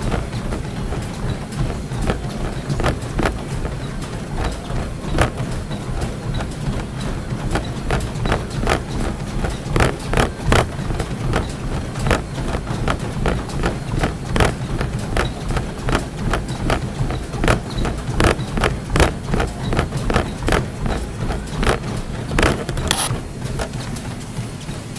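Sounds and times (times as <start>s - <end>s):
footfalls on treadmill belt: 0.0s - 24.9s
treadmill low hum: 0.0s - 24.9s.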